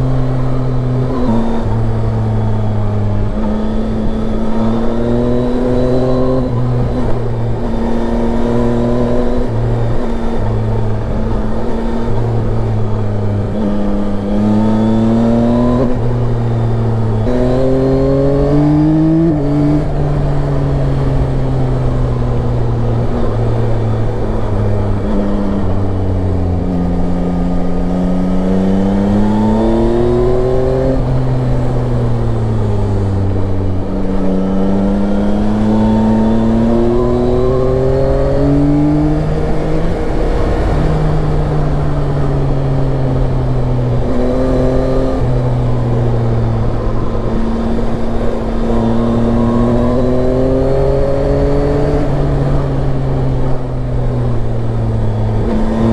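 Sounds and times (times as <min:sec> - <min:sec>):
motorcycle engine shifting gears: 0:00.0 - 0:55.9
wind and road noise: 0:00.0 - 0:55.9.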